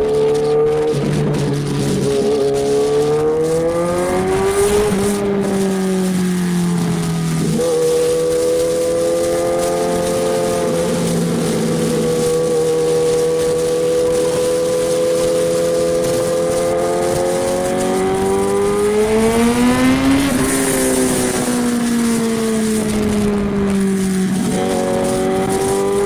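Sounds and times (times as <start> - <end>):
motorcycle engine: 0.0 - 26.0
wind rush: 0.0 - 26.0.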